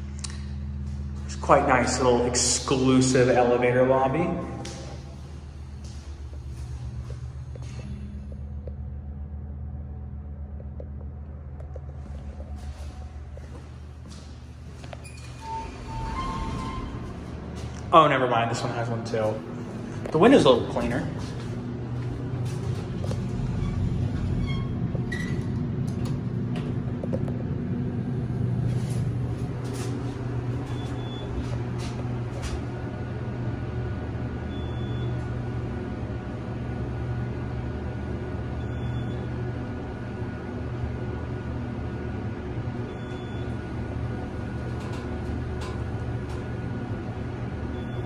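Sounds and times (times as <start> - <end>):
elevator drone: 0.0 - 48.0.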